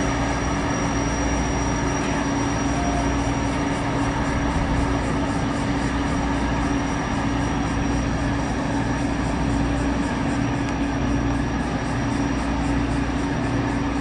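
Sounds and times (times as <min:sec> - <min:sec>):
gas turbines whining: 0:00.0 - 0:14.0.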